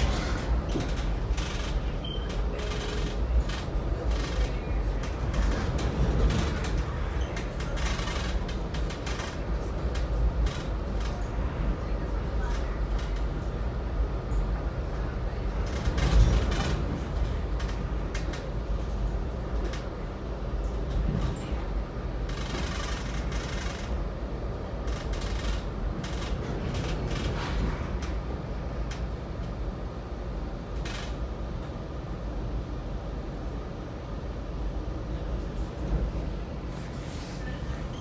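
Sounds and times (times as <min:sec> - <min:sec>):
train clacking and rattling: 0:00.0 - 0:32.5
train rumbling: 0:00.0 - 0:38.0.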